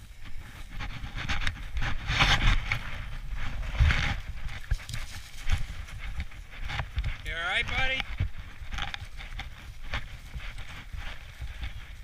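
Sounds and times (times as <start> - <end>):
footsteps through dry grass: 0.0 - 12.0.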